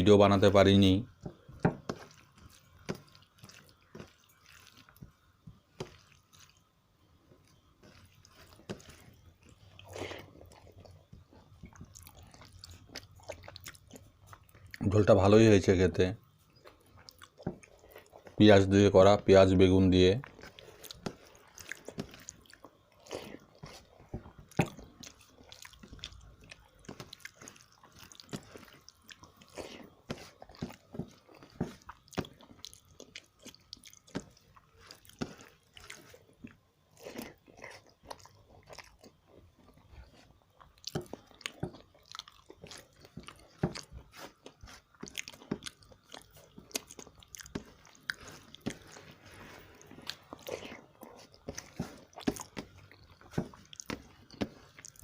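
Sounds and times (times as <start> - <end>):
person chewing food: 1.1 - 15.0, 16.3 - 18.4, 20.2 - 55.0.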